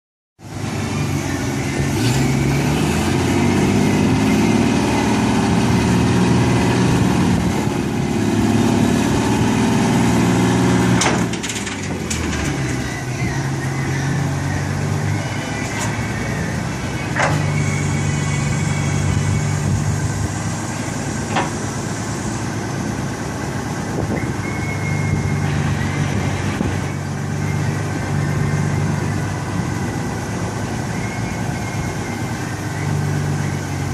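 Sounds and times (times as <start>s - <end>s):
concrete truck engine running: 0.4s - 33.9s.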